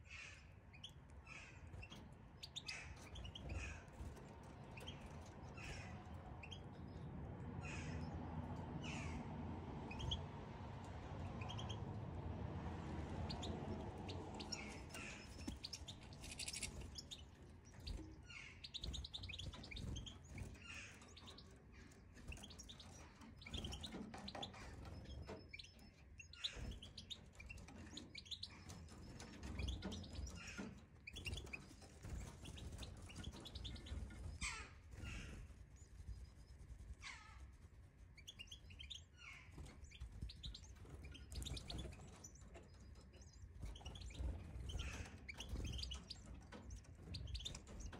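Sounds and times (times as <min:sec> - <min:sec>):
birds chirping: 0:00.0 - 0:47.9
faint low rumble: 0:00.8 - 0:47.9.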